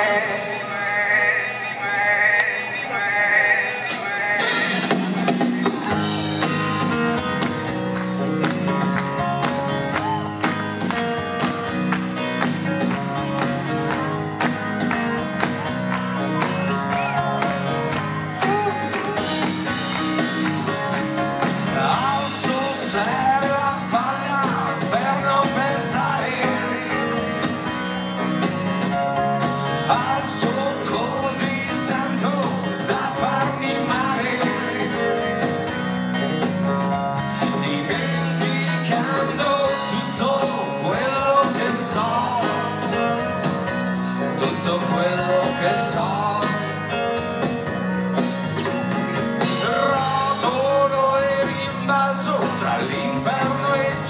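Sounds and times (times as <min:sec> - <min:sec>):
drums: 0:00.0 - 0:54.0
plucked guitars: 0:03.8 - 0:54.0
electric bass: 0:04.3 - 0:54.0.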